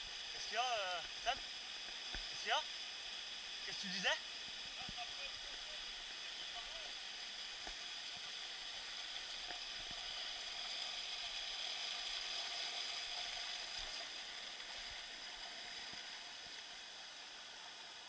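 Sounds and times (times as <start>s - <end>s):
running water rushing: 0.0s - 18.0s.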